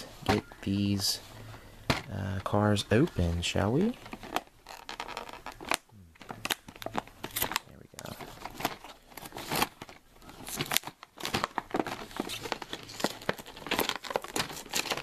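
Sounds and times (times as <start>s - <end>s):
plastic packaging crackling: 1.9s - 15.0s.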